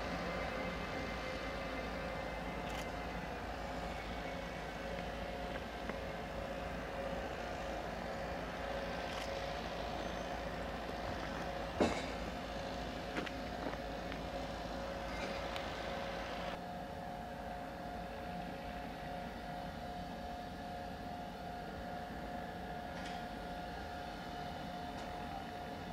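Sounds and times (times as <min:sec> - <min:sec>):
electric locomotive humming: 0:00.0 - 0:25.9.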